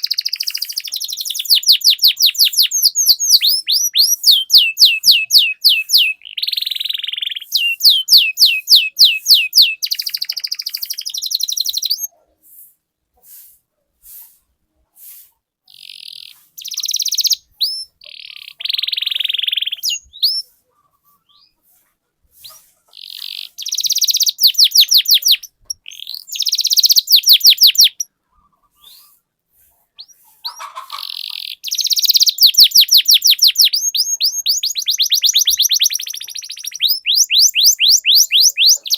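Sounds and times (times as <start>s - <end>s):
canary singing trills: 0.0s - 12.2s, 15.6s - 38.9s.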